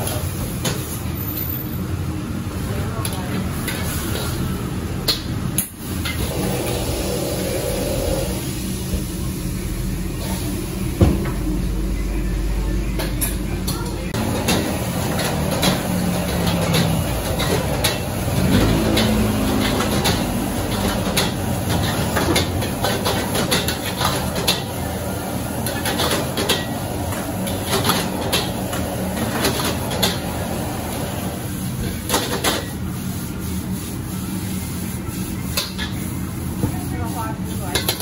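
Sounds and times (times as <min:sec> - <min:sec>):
gas burner roaring: 0:00.0 - 0:36.5.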